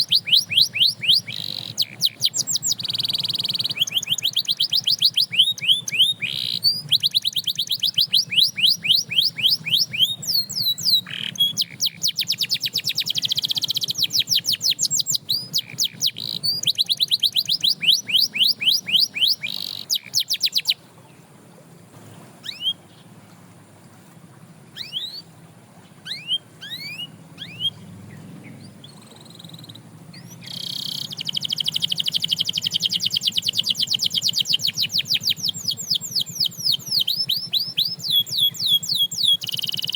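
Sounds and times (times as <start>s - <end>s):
canary chirps: 0.0s - 20.8s, 22.4s - 23.1s, 24.7s - 25.3s, 26.0s - 39.9s
canary trilling: 0.0s - 20.8s, 22.4s - 22.8s, 24.8s - 25.3s, 26.0s - 39.9s.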